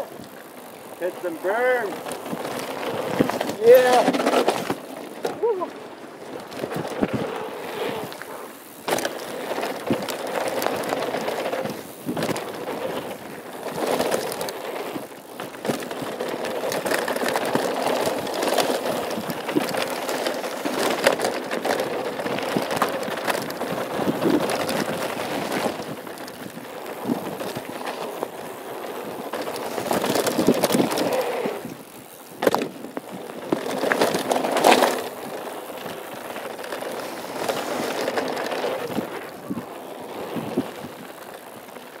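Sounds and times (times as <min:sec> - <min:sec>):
bike tyres on dirt and gravel: 0:00.0 - 0:42.0.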